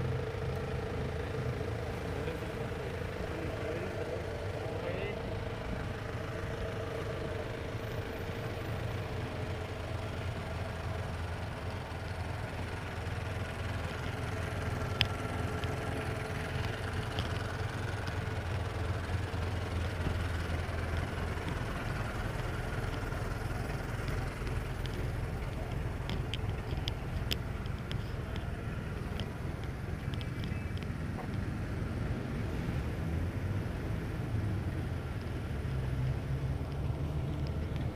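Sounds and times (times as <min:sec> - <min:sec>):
bus engine idling: 0:00.0 - 0:37.9.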